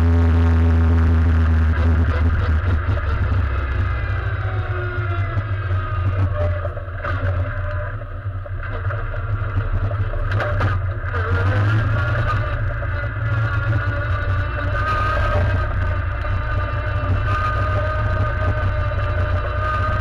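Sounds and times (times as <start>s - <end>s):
race car engine running: 0.0s - 20.0s.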